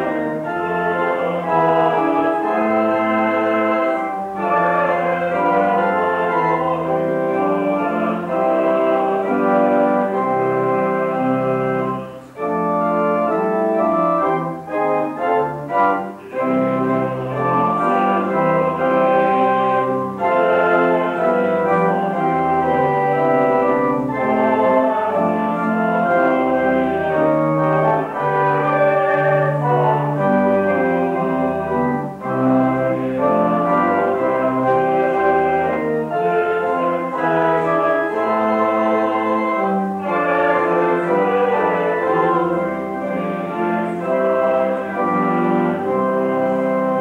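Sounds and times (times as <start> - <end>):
organ chords: 0.0 - 47.0.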